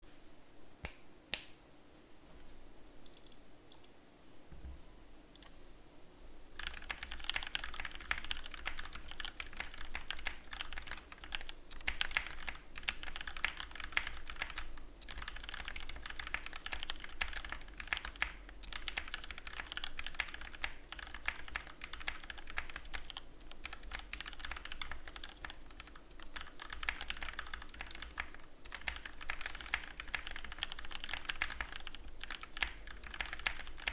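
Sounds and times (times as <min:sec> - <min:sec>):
mechanical keyboard typing: 0:06.6 - 0:33.9.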